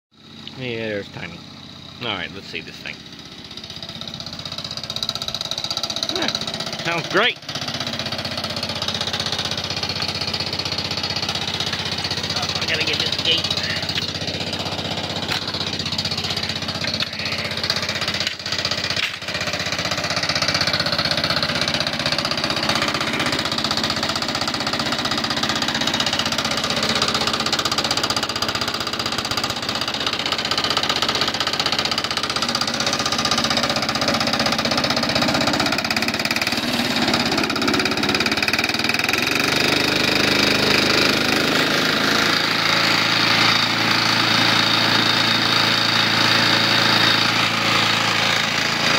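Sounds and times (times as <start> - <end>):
small engine with rod knock: 3.5 - 48.9.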